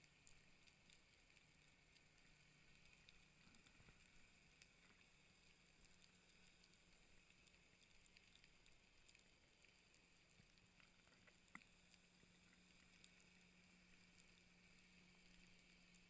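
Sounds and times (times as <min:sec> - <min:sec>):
faint low hum and hiss: 0:00.0 - 0:16.0.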